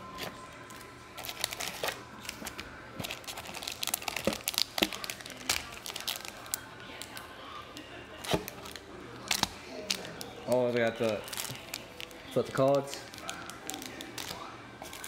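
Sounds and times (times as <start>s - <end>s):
foil and plastic packaging crinkling: 0.0s - 15.0s.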